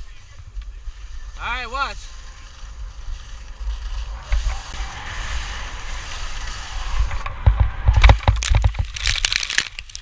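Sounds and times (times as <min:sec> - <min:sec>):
skis scraping over snow: 0:00.0 - 0:09.2.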